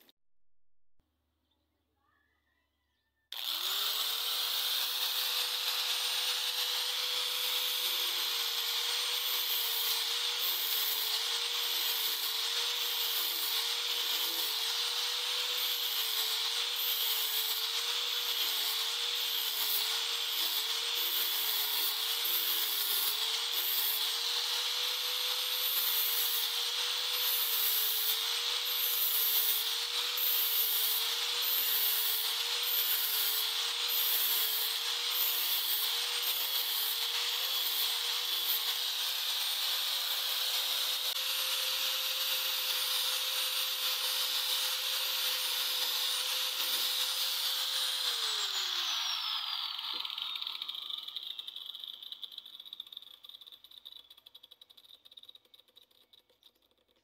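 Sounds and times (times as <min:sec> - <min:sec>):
angle grinder motor: 0:03.3 - 0:55.1
grinding disc hissing on steel: 0:03.7 - 0:51.7.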